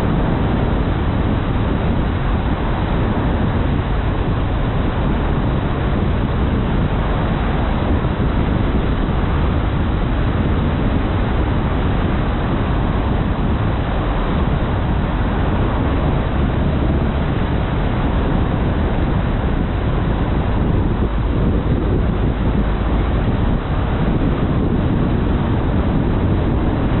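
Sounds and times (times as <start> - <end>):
road and wind noise from car: 0.0 - 27.0.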